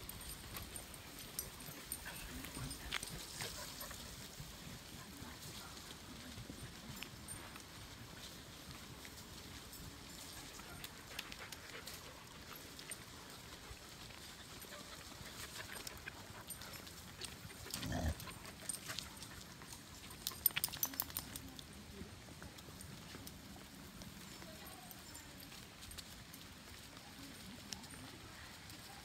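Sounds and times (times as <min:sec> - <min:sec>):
dog paws clicking on road: 0:00.0 - 0:29.0.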